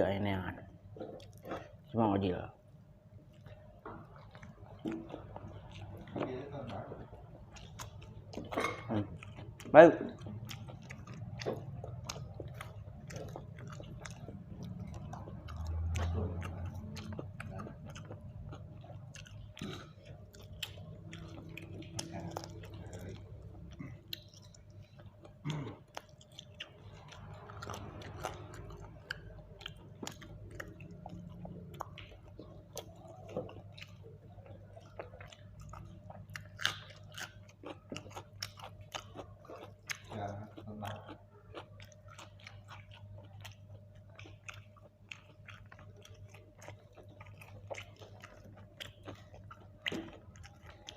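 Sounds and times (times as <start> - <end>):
chewing with wet mouth clicks: 0.6 - 50.9.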